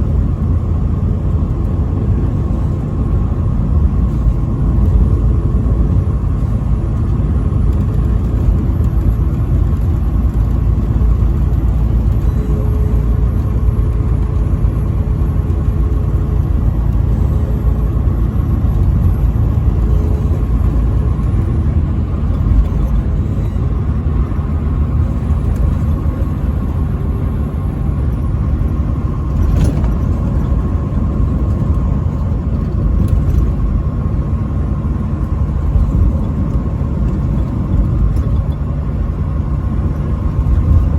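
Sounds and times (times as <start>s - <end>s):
faint steady whine: 0.0s - 40.9s
road and engine rumble: 0.0s - 40.9s.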